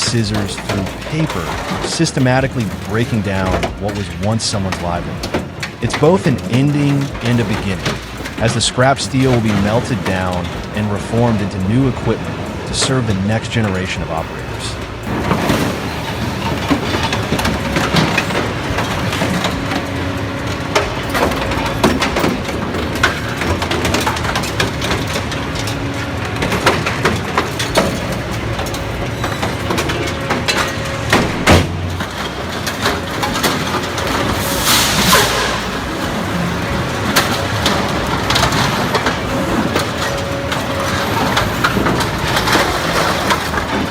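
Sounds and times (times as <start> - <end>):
demolition shear crunching metal: 0.0 - 43.9
heavy metal clank: 0.0 - 43.9
machine running: 0.0 - 43.9.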